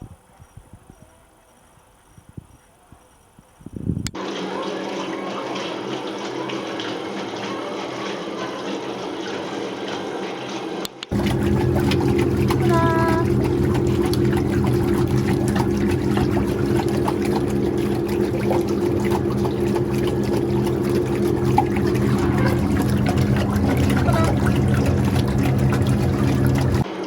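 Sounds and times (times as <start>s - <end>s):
pump motor humming: 4.1s - 27.0s
water churning: 4.2s - 27.0s.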